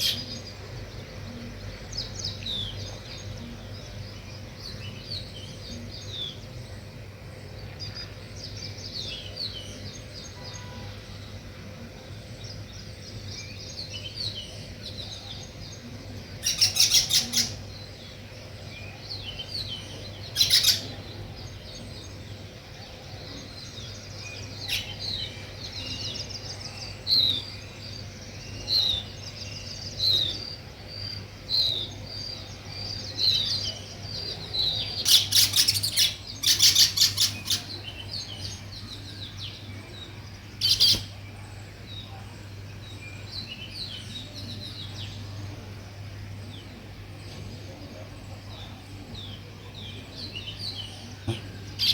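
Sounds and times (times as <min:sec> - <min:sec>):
sparrows chirping: 0:00.0 - 0:51.9.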